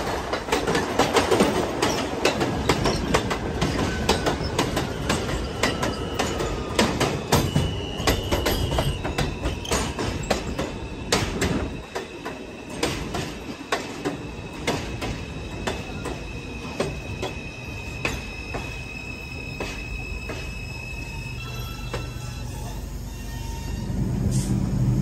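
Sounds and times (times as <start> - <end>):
train wheels clacking on rails: 0.0 - 22.4
train high whine: 0.0 - 25.0.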